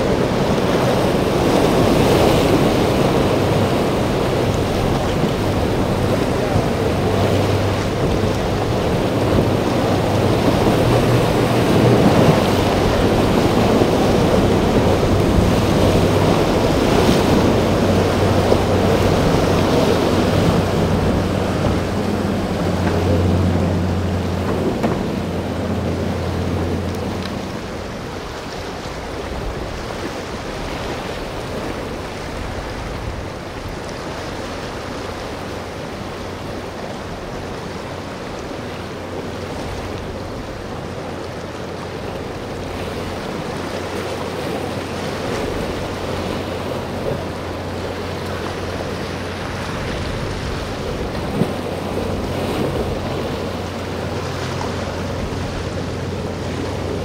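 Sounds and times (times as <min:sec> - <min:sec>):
boat engine drone: 0:00.0 - 0:57.0
waves: 0:00.0 - 0:57.0.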